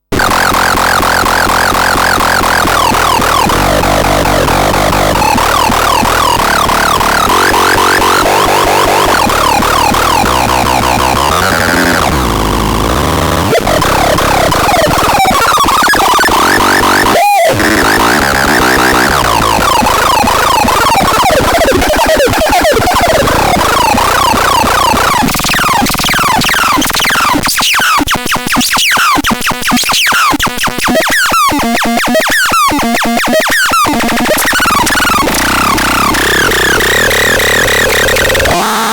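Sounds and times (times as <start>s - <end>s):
choppy stuttering electronic sounds: 0.0s - 38.9s
synthesizer downward sweep: 0.2s - 28.0s, 30.9s - 38.9s
warbling synthesizer tones: 0.2s - 28.0s, 29.8s - 38.6s.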